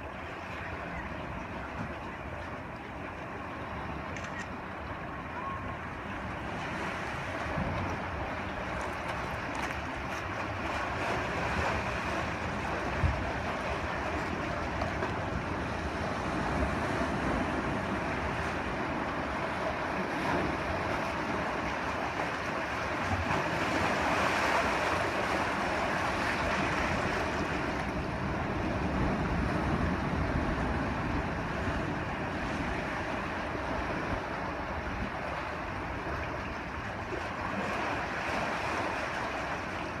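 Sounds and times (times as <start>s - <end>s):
ocean surf washing over rocks: 0.0s - 40.0s.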